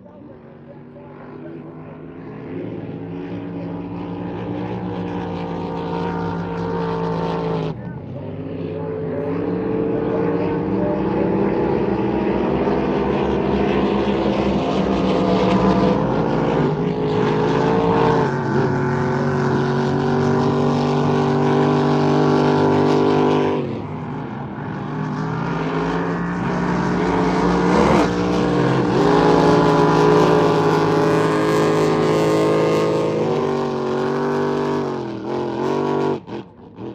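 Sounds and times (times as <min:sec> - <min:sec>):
racing motorboat engines droning: 0:00.0 - 0:36.9.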